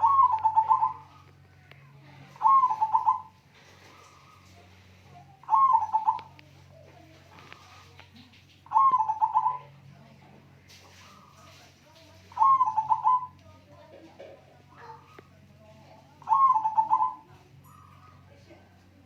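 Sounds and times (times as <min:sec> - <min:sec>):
dove cooing: 0:00.0 - 0:01.4, 0:02.2 - 0:09.8, 0:12.3 - 0:18.8.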